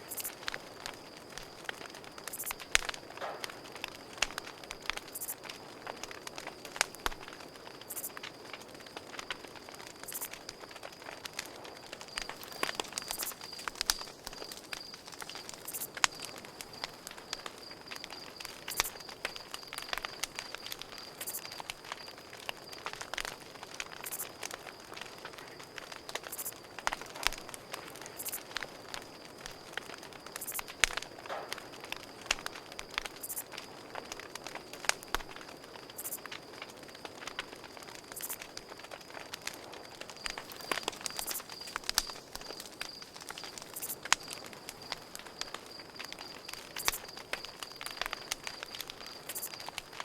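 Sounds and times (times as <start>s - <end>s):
campfire crackling and popping: 0.0s - 50.0s
crickets trilling: 0.0s - 50.0s.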